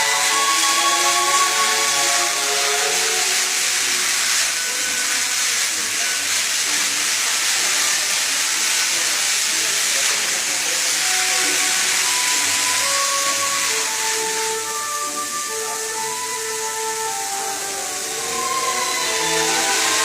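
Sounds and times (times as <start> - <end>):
water fountain jets splashing: 0.0 - 20.0.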